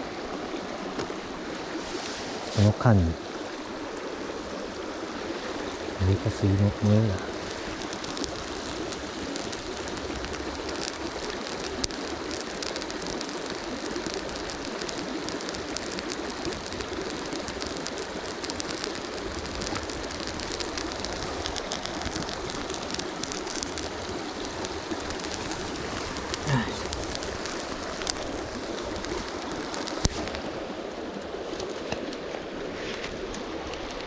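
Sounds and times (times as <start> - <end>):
river rushing: 0.0 - 34.0
small fire crackling: 0.0 - 34.0.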